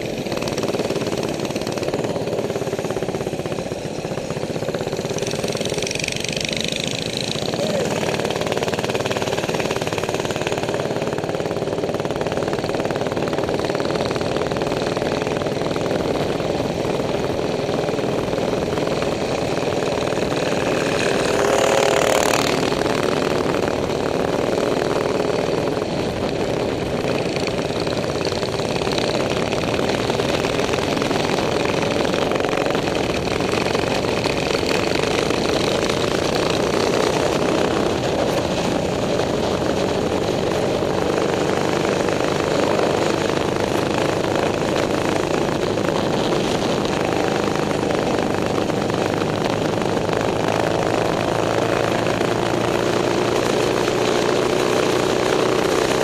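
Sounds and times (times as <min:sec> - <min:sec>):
small motorbike engines running: 0:00.0 - 0:56.0.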